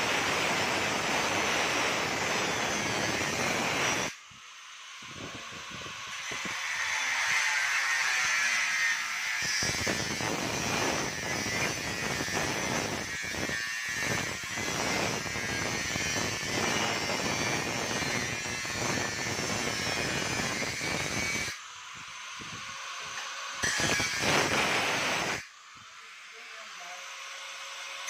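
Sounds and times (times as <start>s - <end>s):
angle grinder cutting aluminium: 0.0s - 4.2s, 4.8s - 28.0s.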